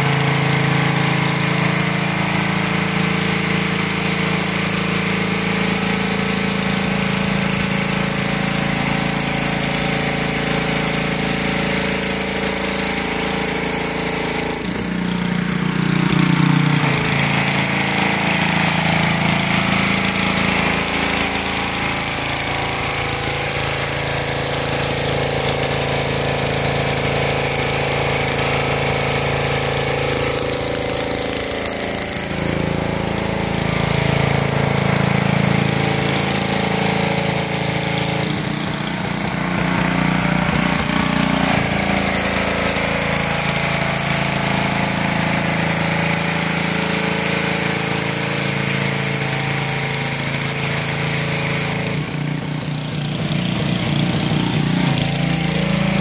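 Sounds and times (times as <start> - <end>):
high-pressure water jet hissing: 0.0 - 56.0
pressure washer engine humming: 0.0 - 56.0.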